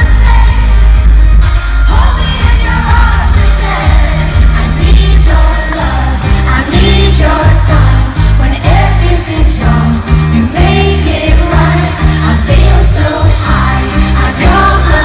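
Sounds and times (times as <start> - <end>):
live pop music: 0.0 - 15.0.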